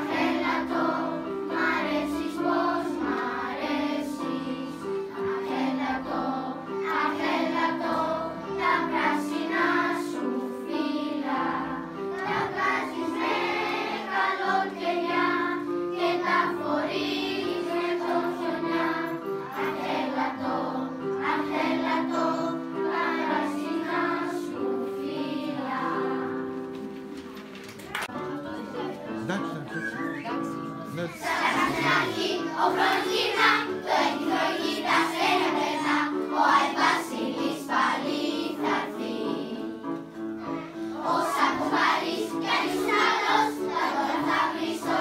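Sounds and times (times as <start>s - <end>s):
children's choir singing: 0.0s - 26.9s, 28.1s - 45.0s.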